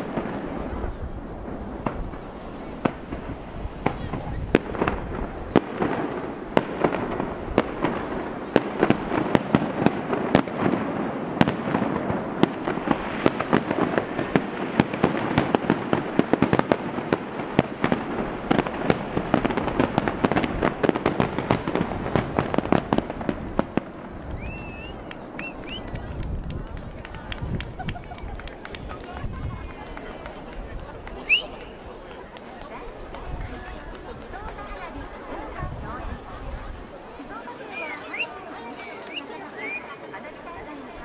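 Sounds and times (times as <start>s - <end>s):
fireworks bursting: 0.0s - 35.6s
firework crackles: 0.0s - 41.0s.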